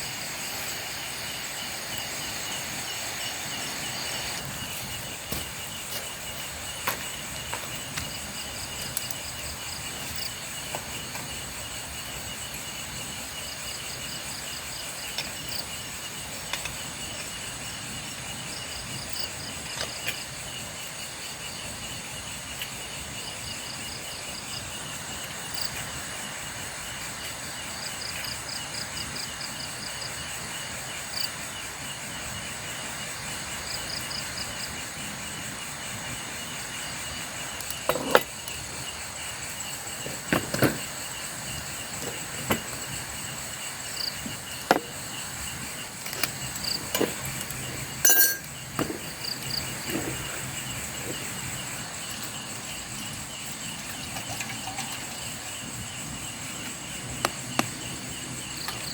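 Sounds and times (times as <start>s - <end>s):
high insect chirps: 0.0s - 58.9s
insects trilling in chorus: 0.0s - 58.9s.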